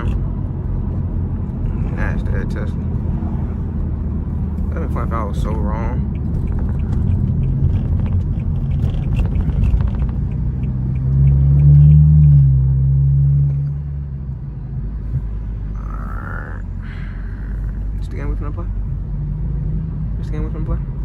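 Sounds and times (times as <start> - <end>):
car engine droning: 0.0 - 21.0
low road rumble: 0.0 - 21.0.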